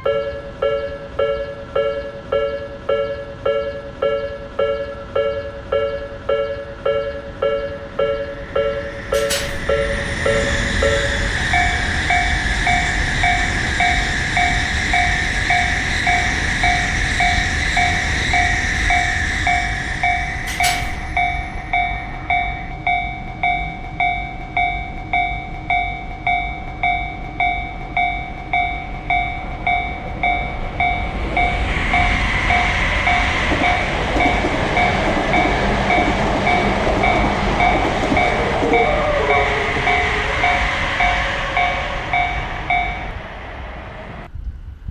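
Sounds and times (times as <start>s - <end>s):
railroad crossing bell ringing: 0.0s - 44.3s
passing train: 0.0s - 44.9s.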